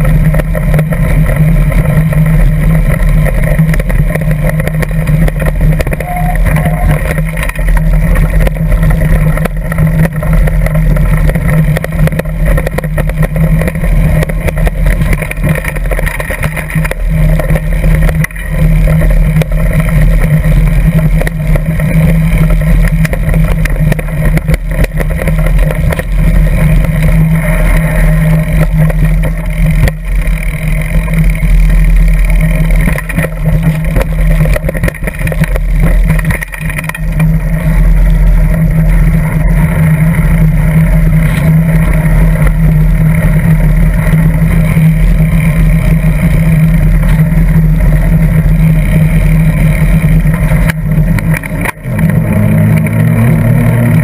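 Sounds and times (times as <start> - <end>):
bike rumbling over rough ground: 0.0 - 54.0.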